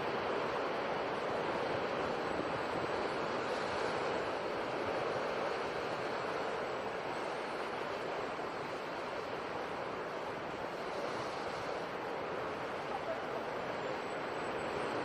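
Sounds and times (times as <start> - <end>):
sea surf washing: 0.0 - 15.0.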